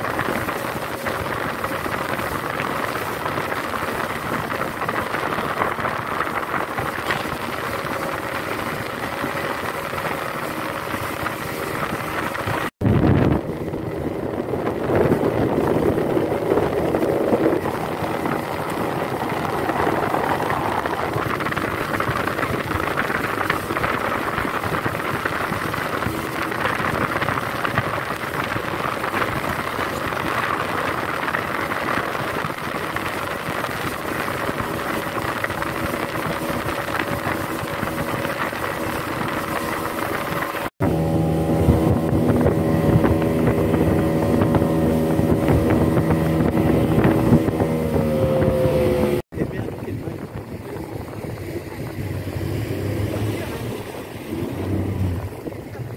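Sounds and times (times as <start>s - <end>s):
rush of boat wake: 0.0s - 55.9s
speedboat engine running: 0.0s - 55.9s
wind on microphone: 0.0s - 55.9s.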